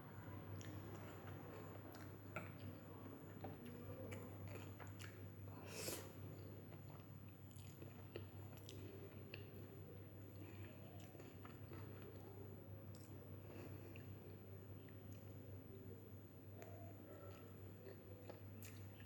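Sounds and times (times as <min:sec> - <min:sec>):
person chewing food: 0:00.5 - 0:15.4, 0:16.6 - 0:19.0.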